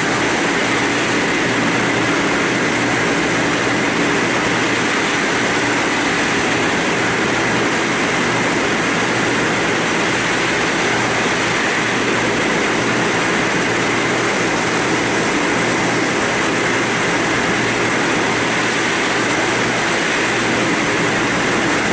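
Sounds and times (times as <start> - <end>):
low machine hum: 0.0 - 21.9.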